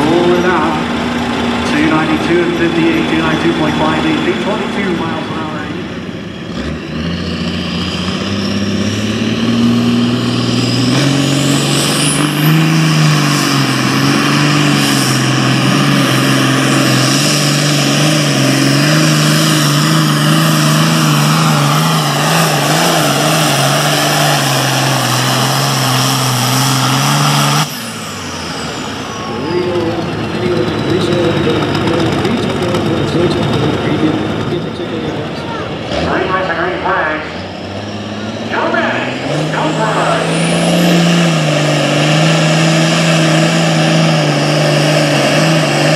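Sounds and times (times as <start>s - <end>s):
tractor diesel engine at full throttle: 0.0s - 45.9s.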